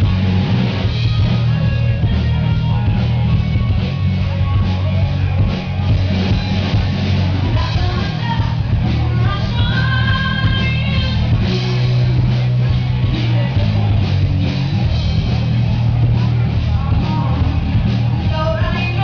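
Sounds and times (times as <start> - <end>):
rock music with singing and guitar: 0.0 - 19.0
strong bass line: 0.0 - 19.0.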